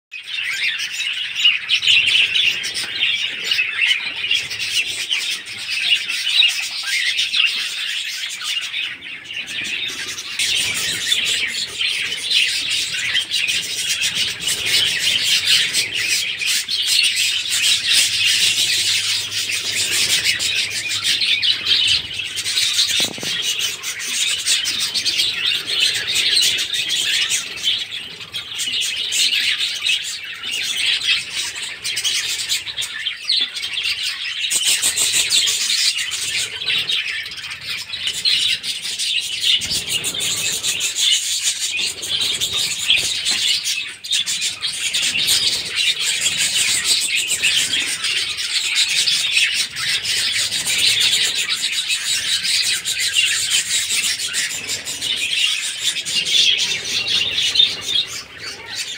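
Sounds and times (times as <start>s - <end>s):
parrots chirping and chattering: 0.2s - 58.9s.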